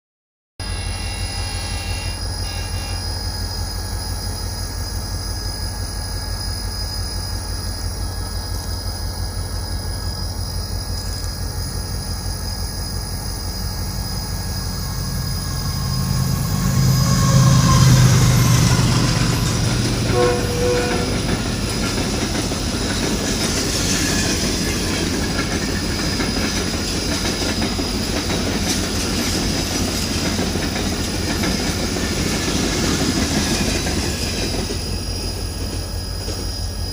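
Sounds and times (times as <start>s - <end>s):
train rumbling past: 0.6s - 36.9s
wheels hissing on rails: 0.6s - 36.9s.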